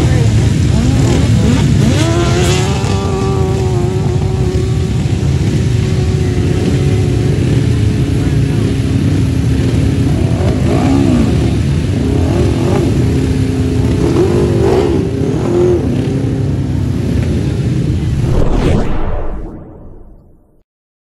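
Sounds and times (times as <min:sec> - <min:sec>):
racing engines revving: 0:00.0 - 0:18.3.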